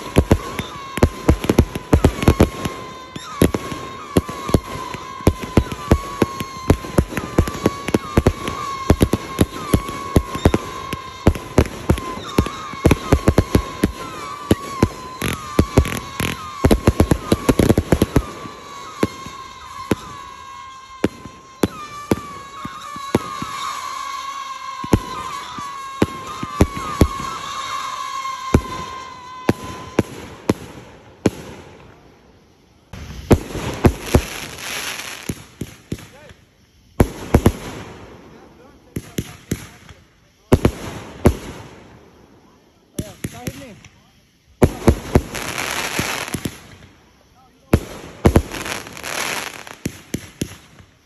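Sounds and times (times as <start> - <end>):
fireworks cracks and bangs: 0.0 - 51.0
high firework whistle: 0.0 - 51.0.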